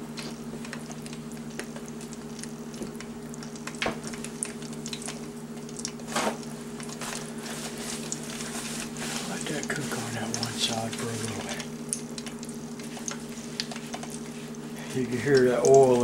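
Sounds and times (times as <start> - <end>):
hot oil popping and crackling: 0.0 - 16.0
steady low hum: 0.0 - 16.0.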